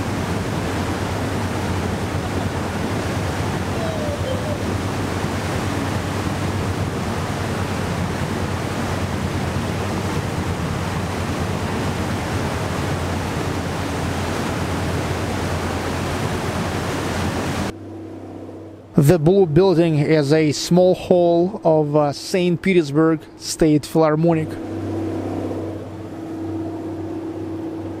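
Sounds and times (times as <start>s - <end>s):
boat engine running: 0.0s - 28.0s
low hum: 0.0s - 28.0s
rushing water: 0.0s - 28.0s.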